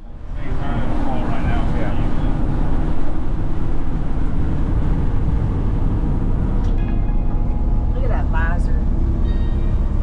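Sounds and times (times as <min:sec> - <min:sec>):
truck engine drone in cab: 0:00.0 - 0:10.0.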